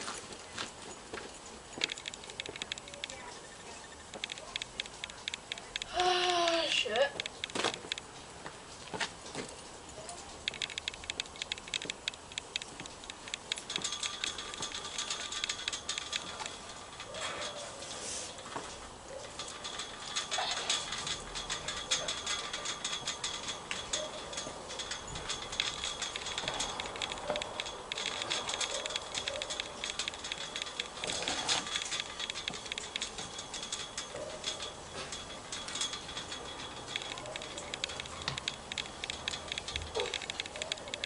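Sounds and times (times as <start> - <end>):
chain-link fence rattling: 0.0 - 41.0.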